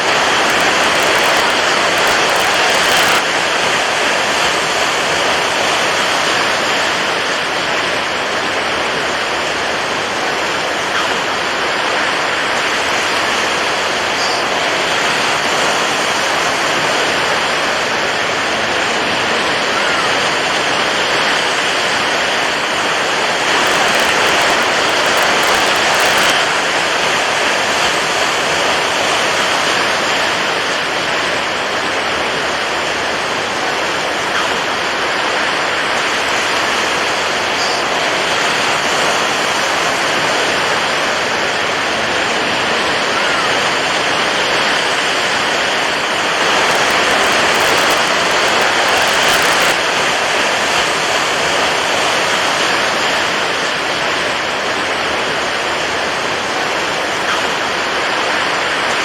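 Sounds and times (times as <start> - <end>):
water waves rushing: 0.0 - 59.0.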